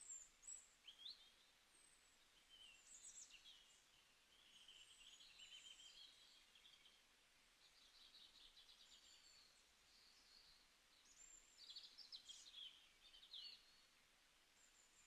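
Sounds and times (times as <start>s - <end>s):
birdsong chirps and trills: 0.0s - 14.0s.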